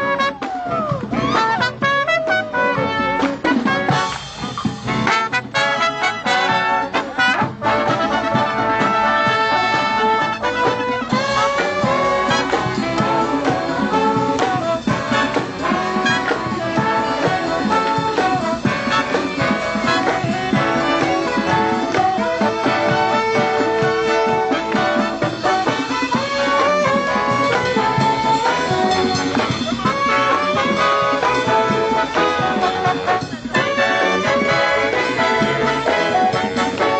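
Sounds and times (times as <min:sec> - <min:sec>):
brass band playing jazz: 0:00.0 - 0:36.9.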